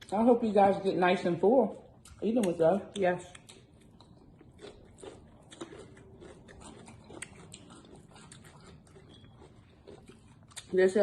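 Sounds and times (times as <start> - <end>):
crunchy chewing: 1.8 - 11.0.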